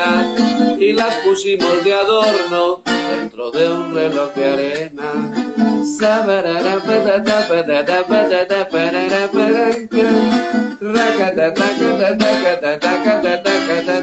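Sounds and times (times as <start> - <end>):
acoustic guitar strumming: 0.0 - 14.0
man singing: 0.0 - 14.0.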